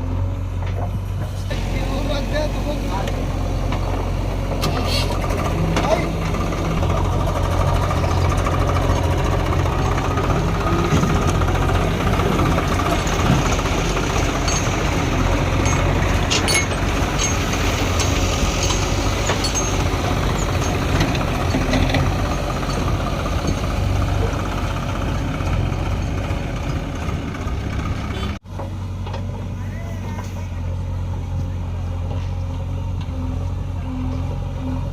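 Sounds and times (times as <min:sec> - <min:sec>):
heavy diesel engine under load: 0:00.0 - 0:34.9.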